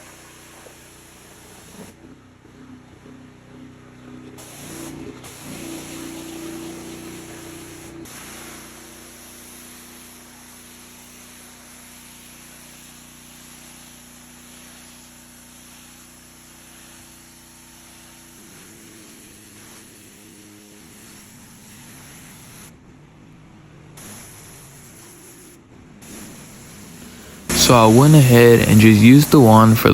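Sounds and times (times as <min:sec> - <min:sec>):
water spraying onto concrete: 0:00.0 - 0:02.0, 0:04.4 - 0:22.8, 0:24.0 - 0:29.9
pressure washer engine humming: 0:00.0 - 0:29.9.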